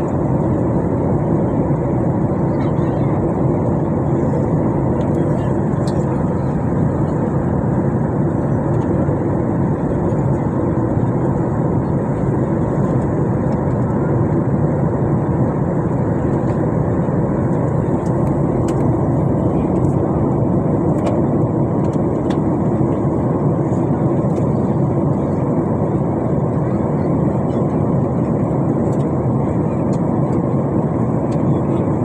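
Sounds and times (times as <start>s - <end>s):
jet engine rushing in cabin: 0.0s - 32.0s.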